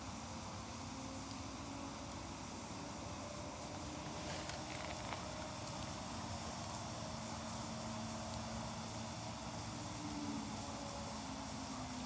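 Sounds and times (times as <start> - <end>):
fire crackle: 0.0 - 11.9
faint steady hum: 0.0 - 12.0
fire hissing and rumbling: 0.0 - 12.0.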